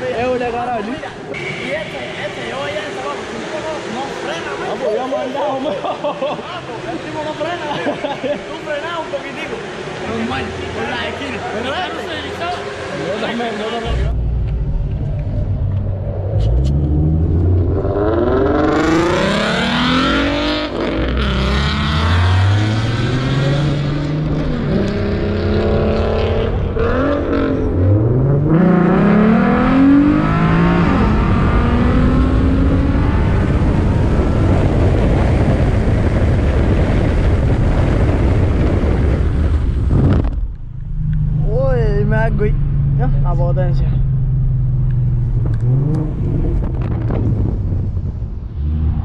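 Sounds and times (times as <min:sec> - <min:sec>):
vehicle engine accelerating: 0:08.5 - 0:49.0.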